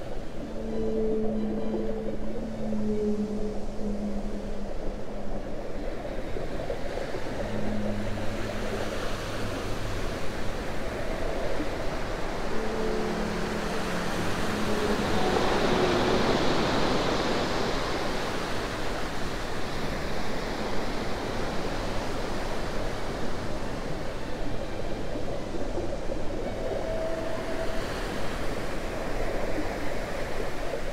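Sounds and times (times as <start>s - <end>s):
rushing water-like ambience: 0.0s - 30.9s.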